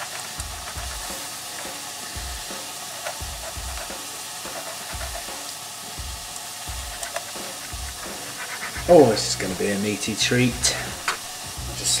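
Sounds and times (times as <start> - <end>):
mushrooms sizzling in a pan: 0.0 - 12.0.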